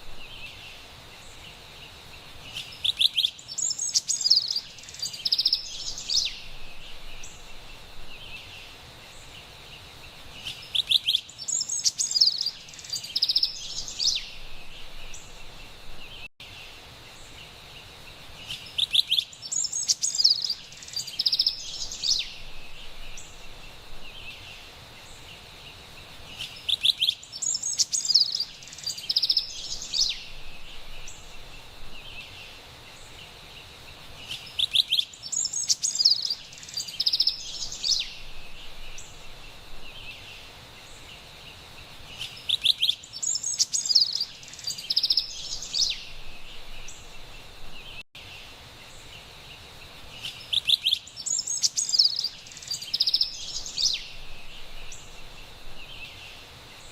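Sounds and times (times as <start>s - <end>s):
faint background hiss: 0.0s - 56.9s
wren singing rolling song: 0.0s - 56.9s.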